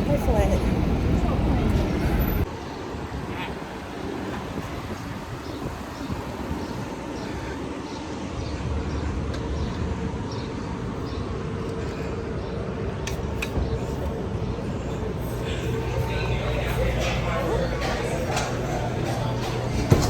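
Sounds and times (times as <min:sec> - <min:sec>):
rumble of passing traffic: 0:00.0 - 0:20.0.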